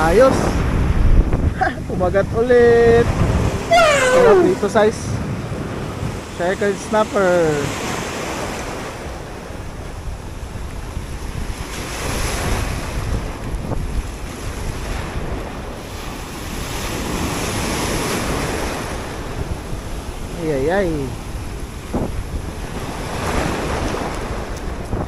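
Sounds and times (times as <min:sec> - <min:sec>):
sea surf breaking over rocks: 0:00.0 - 0:25.0
wind buffeting microphone: 0:00.0 - 0:25.0.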